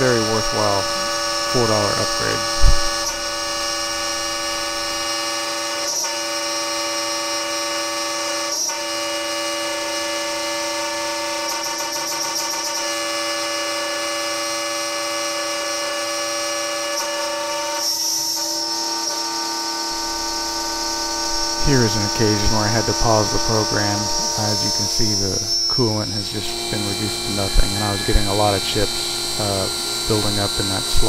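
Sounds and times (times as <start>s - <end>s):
milling machine cutting metal: 0.0s - 31.0s.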